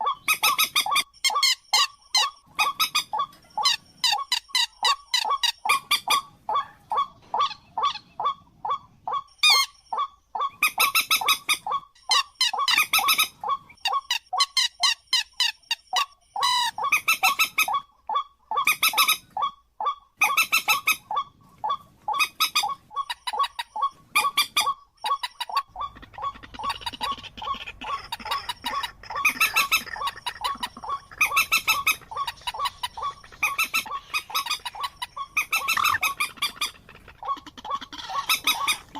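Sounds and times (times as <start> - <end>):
bird honk-like calls: 0.0 - 15.0, 16.0 - 38.9.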